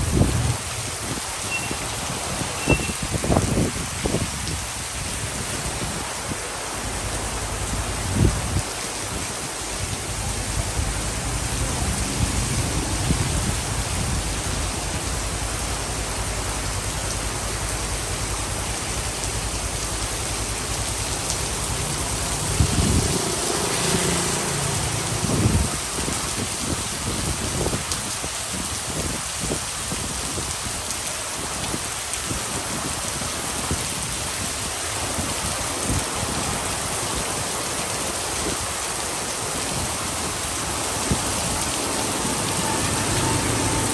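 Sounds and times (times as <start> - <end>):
rain pouring on street: 0.0 - 43.9.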